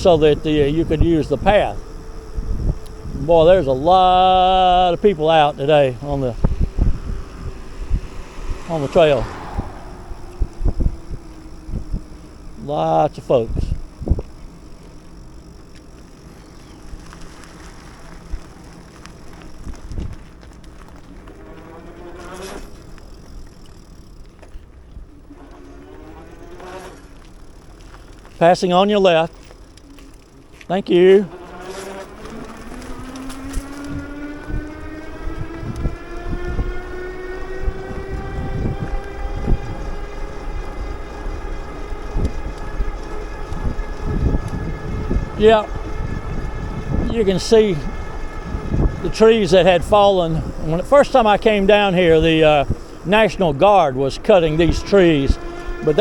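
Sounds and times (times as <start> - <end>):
bicycle tyre noise: 0.0 - 56.0
bike motor whining: 0.0 - 56.0
faint humming tone: 0.0 - 56.0
wind: 0.0 - 56.0.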